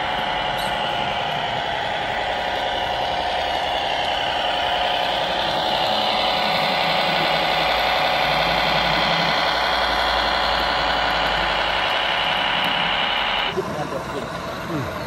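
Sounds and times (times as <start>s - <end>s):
model tractor engine drone: 0.0s - 15.0s.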